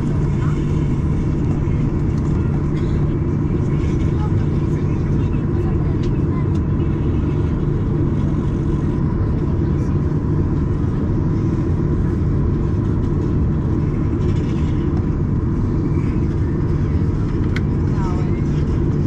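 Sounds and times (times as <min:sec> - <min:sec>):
aircraft cabin engine rumble: 0:00.0 - 0:19.0
faint steady whine: 0:00.0 - 0:19.0.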